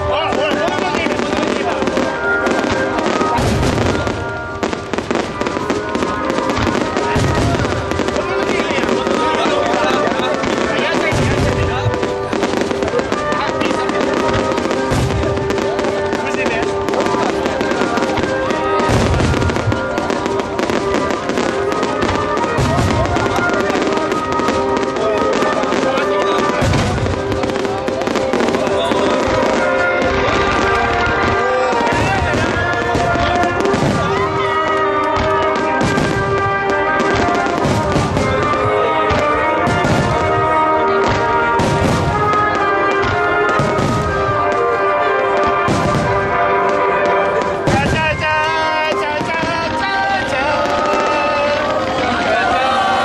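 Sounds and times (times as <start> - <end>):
fireworks booming: 0.0 - 53.0
fireworks crackling: 0.0 - 53.0
music over loudspeakers: 0.0 - 53.0.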